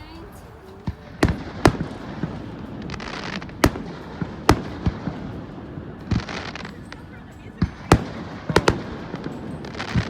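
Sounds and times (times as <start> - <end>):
fireworks crackling: 0.0 - 10.0
fireworks bangs: 0.2 - 6.8, 7.6 - 10.0.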